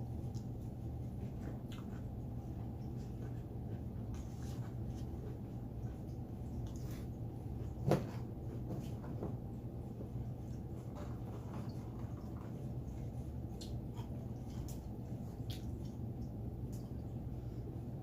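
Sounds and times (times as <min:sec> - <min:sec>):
steady low hum: 0:00.0 - 0:18.0
faint clicks and rustles: 0:00.1 - 0:17.3.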